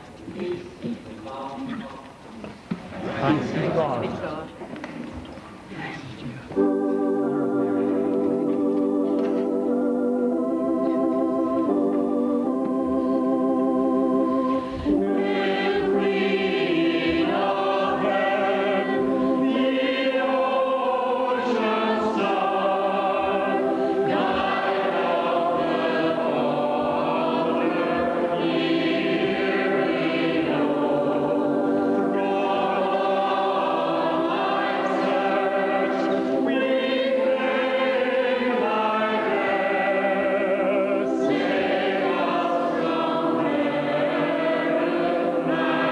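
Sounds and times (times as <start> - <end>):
choir singing a hymn: 6.5 - 45.9
church organ playing: 6.5 - 45.9.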